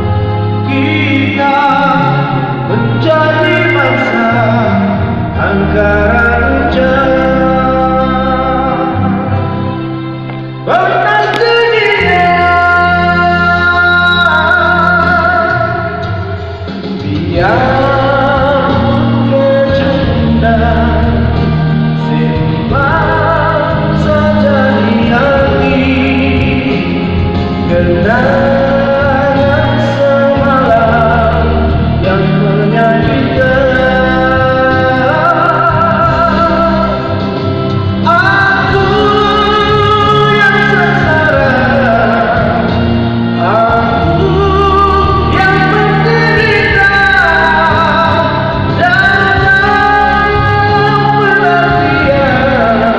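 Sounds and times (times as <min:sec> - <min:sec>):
instrumental accompaniment: 0:00.0 - 0:52.9
man singing a ballad: 0:00.0 - 0:52.9.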